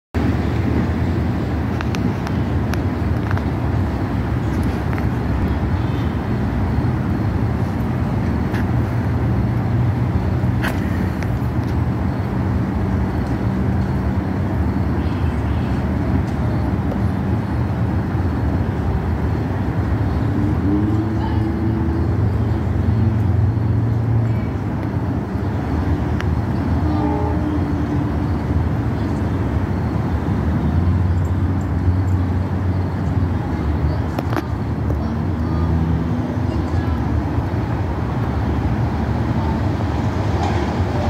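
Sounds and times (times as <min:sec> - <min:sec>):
low rumble of road traffic: 0:00.2 - 0:41.0.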